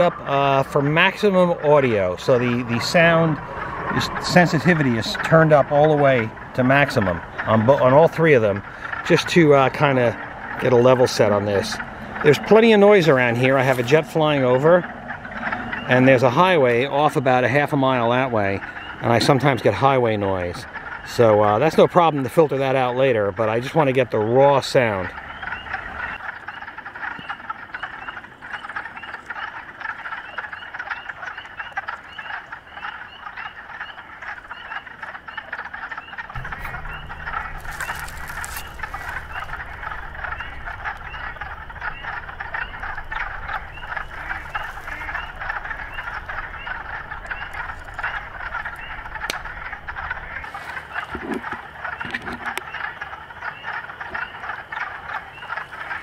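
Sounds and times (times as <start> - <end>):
frogs clucking chorus: 0.0 - 56.0.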